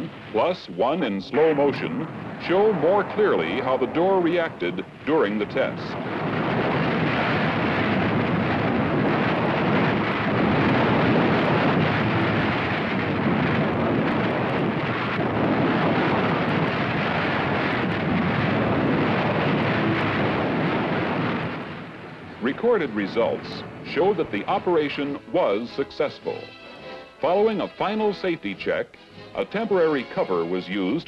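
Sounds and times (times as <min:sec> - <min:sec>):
blast roaring: 0:00.0 - 0:31.0.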